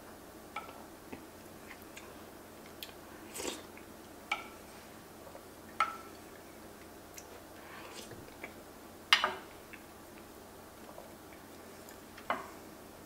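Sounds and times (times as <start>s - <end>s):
soft chewing: 1.1s - 8.7s, 9.6s - 12.7s.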